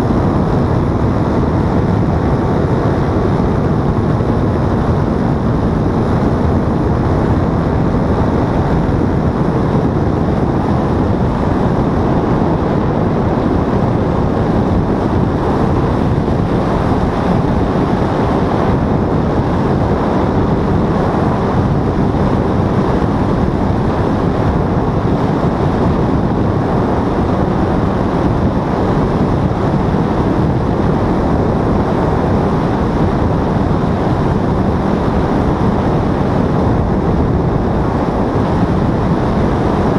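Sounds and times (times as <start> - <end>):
paramotor engine drone: 0.0 - 39.9
wind noise on microphone: 0.0 - 39.9.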